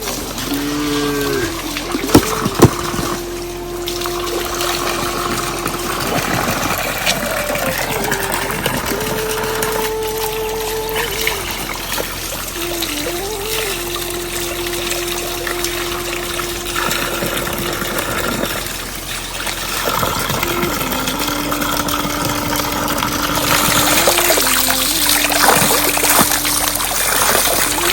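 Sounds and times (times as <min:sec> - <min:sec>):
slow melody of held notes: 0:00.0 - 0:18.8, 0:20.0 - 0:27.9
trickling water: 0:00.0 - 0:27.9.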